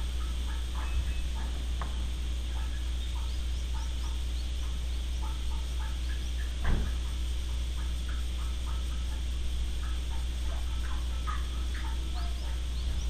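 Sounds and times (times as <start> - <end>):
birds calling: 0.0 - 13.0
low hum: 0.0 - 13.0.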